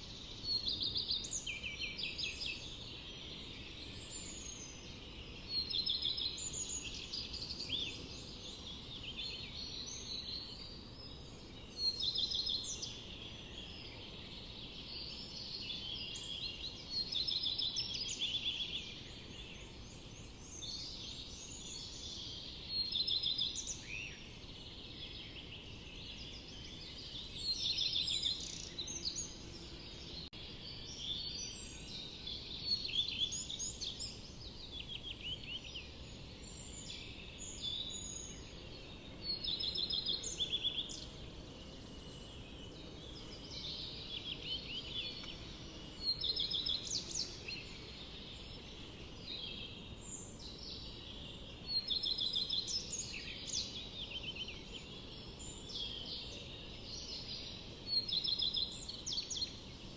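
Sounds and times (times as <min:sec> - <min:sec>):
faint background hiss: 0:00.0 - 0:59.9
songbirds singing: 0:00.0 - 0:59.9.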